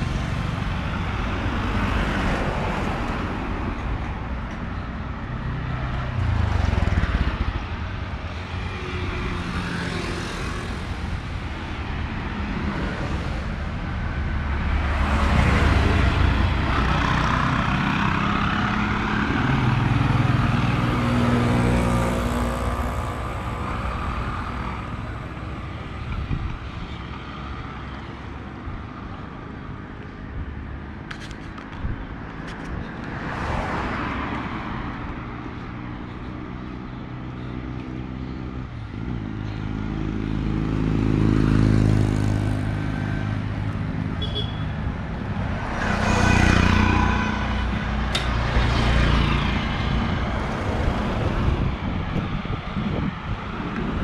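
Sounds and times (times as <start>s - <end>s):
road traffic passing close by: 0.0s - 54.0s.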